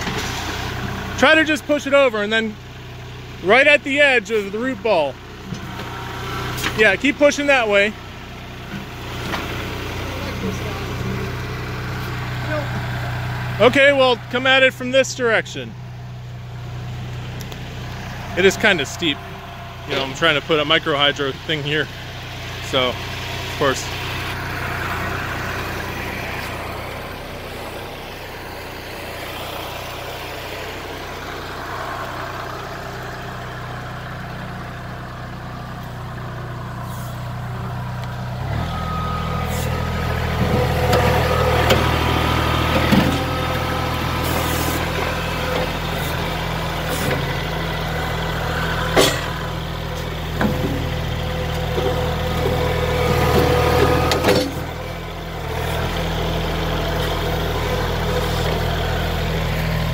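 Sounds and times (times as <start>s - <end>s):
tractor diesel engine labouring: 0.0s - 59.9s.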